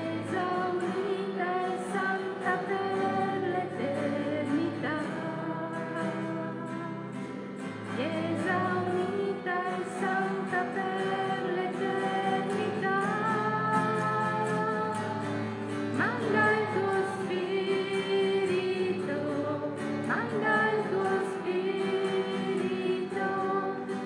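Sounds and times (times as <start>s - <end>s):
person singing a slow hymn: 0.0s - 24.0s.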